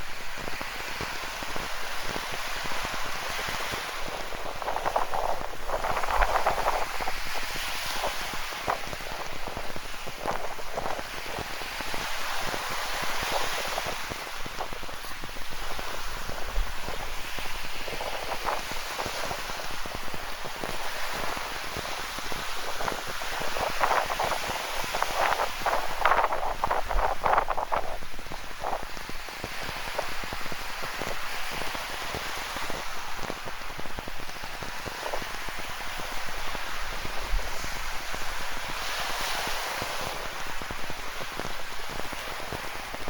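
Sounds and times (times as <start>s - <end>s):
waves washing on rocky shore: 0.0s - 43.0s.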